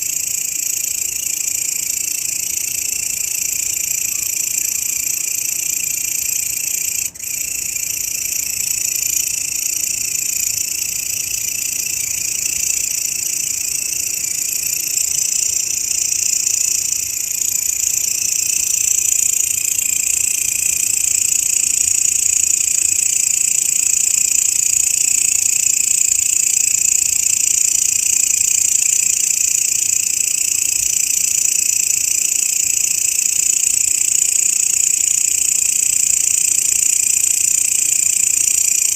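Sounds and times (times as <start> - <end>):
grasshopper buzzing trill: 0.0 - 38.9.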